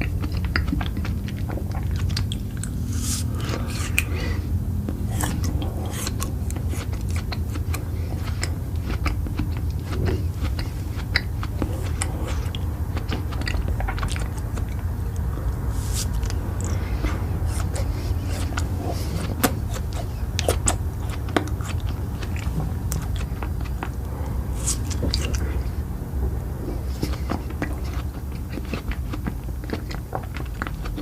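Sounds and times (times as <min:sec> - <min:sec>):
person chewing food: 0:00.0 - 0:31.0
steady low hum: 0:00.0 - 0:31.0.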